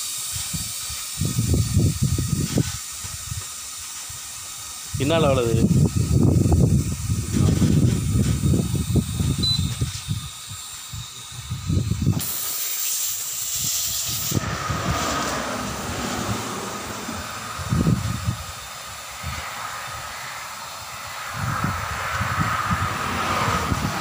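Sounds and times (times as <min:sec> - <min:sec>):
compressed air hissing: 0:00.0 - 0:24.0.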